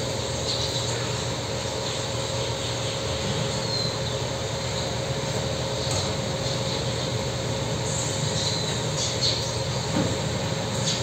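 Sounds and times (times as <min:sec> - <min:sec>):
droning hum and hiss: 0:00.0 - 0:11.0.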